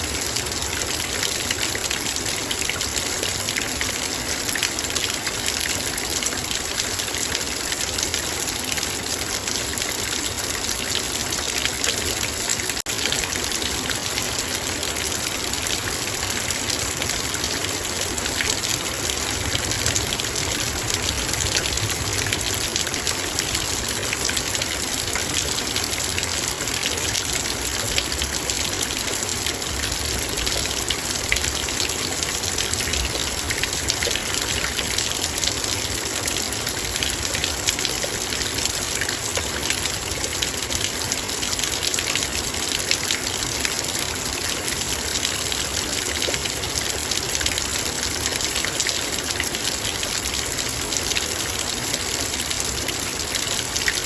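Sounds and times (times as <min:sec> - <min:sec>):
rain ticking on a metal bowl: 0:00.0 - 0:54.0.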